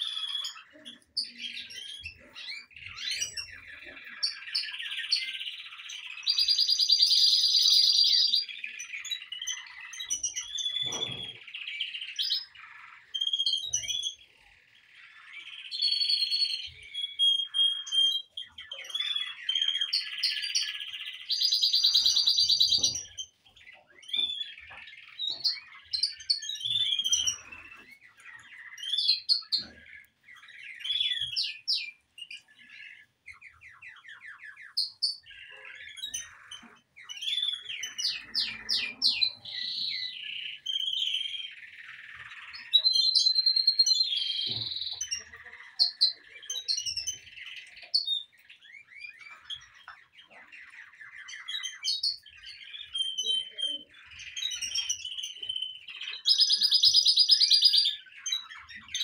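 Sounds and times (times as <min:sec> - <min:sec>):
canaries singing: 0:00.0 - 0:59.0.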